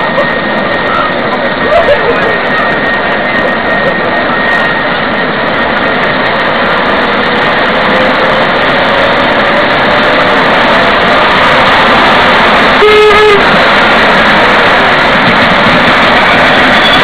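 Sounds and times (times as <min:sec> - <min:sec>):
miniature locomotive running on track: 0:00.0 - 0:17.0.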